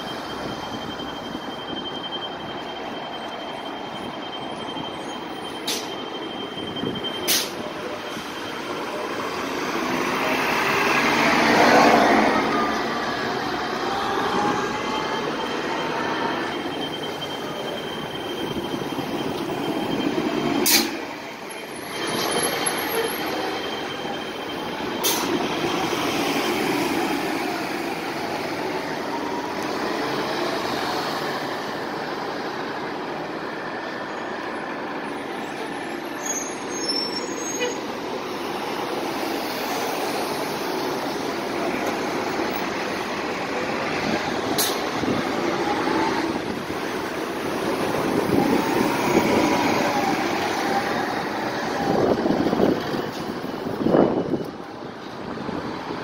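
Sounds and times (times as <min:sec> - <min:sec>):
bus engines whining: 0:00.0 - 0:56.0.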